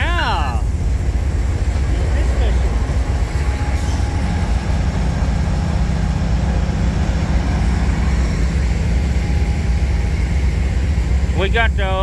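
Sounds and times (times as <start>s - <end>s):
diesel locomotive engine rumbling: 0.0s - 12.0s.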